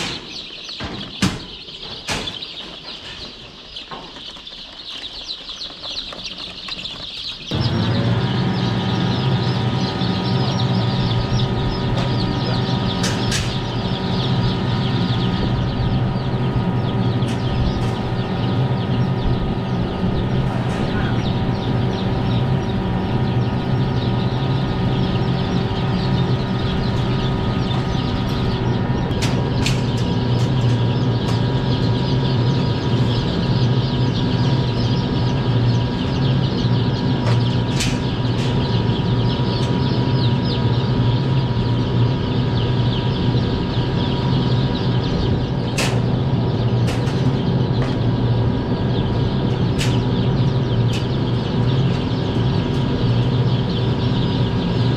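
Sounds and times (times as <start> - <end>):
chicks peeping: 0.0 - 54.9
steady machine hum: 7.5 - 54.9.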